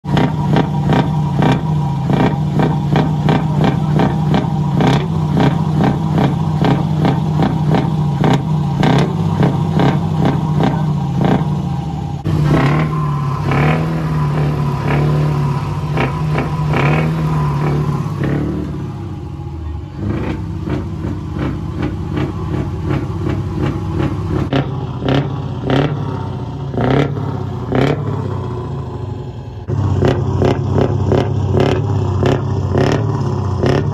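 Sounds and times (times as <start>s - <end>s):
diesel engine revving: 0.0s - 33.9s.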